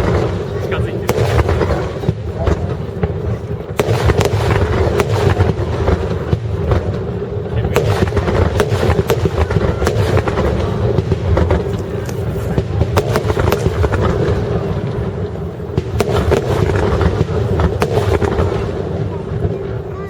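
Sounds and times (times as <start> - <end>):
fireworks bursts rumbling: 0.0 - 20.0
fireworks cracks and pops: 0.0 - 20.0.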